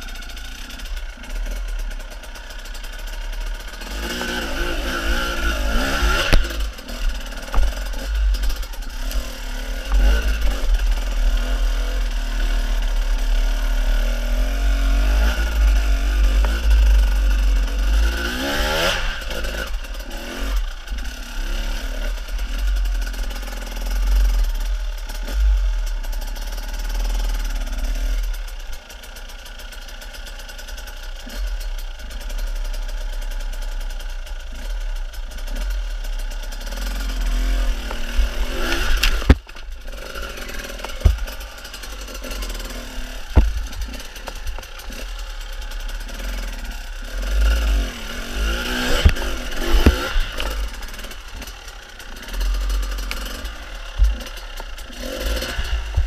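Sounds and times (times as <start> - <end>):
dirt bike engine revving: 0.0 - 30.1, 34.6 - 56.0.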